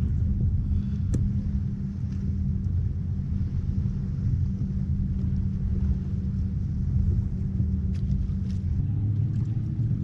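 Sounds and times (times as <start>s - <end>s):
boat motor droning: 0.0s - 10.0s.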